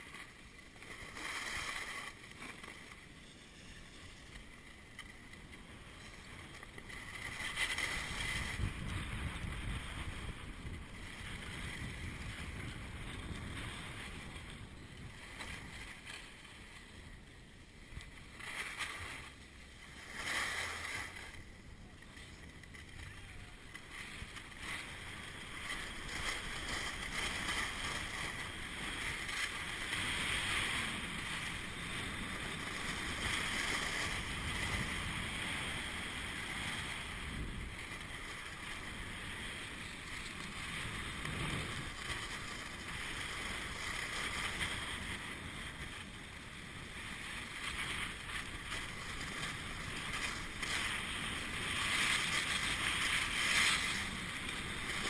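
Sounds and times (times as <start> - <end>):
skis scraping over snow: 0.0 - 55.0
wind on microphone: 0.0 - 55.0.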